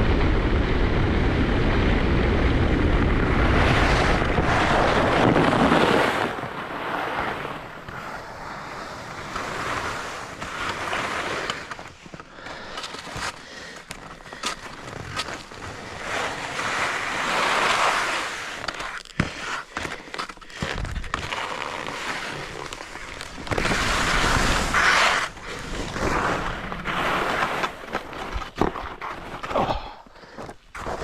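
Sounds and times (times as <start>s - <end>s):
skis scraping over snow: 0.0s - 31.0s.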